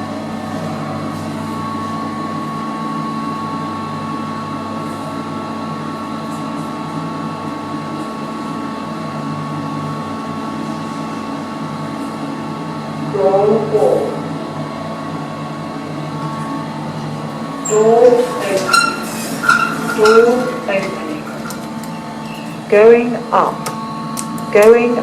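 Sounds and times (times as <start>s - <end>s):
lift mechanical hum: 0.0s - 25.0s
thin constant whine: 0.0s - 25.0s.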